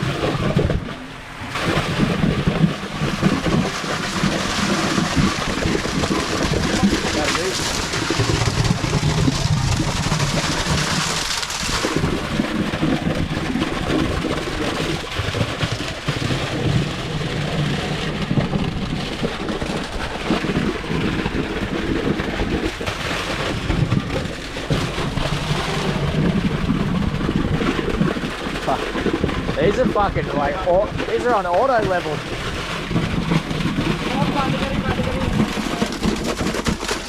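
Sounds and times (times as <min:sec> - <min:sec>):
pump truck rumble: 0:00.0 - 0:37.0.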